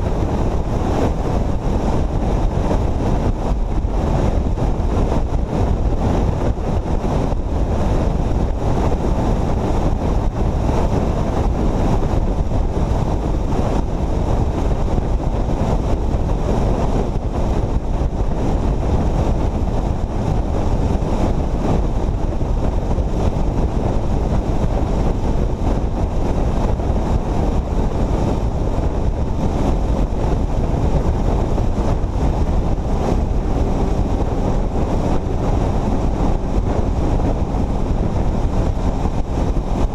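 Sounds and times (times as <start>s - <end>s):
road and engine noise: 0.0s - 39.9s
wind rush on microphone: 0.0s - 39.9s.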